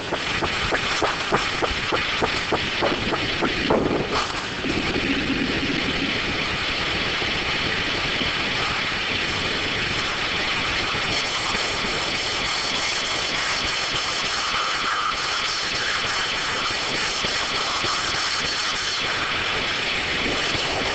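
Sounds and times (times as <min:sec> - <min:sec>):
circular sawmill running: 0:00.0 - 0:20.9.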